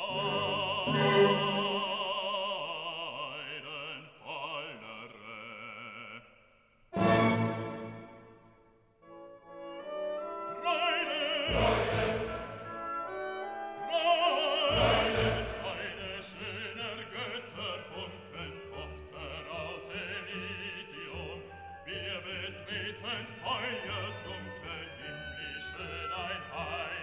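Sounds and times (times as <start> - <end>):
operatic singer with orchestra: 0.0 - 8.4, 9.8 - 27.0.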